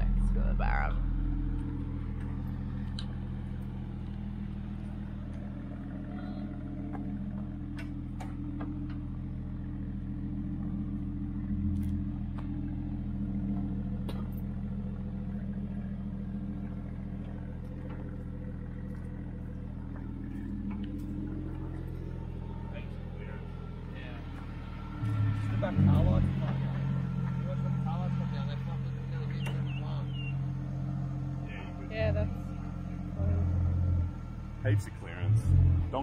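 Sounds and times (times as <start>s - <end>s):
engine running at low revs: 0.0s - 36.0s.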